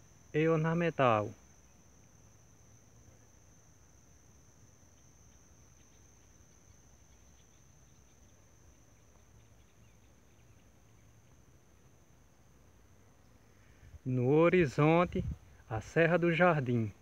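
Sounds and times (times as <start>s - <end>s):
faint chirps: 0.0s - 17.0s
high-pitched insect trill: 0.0s - 17.0s.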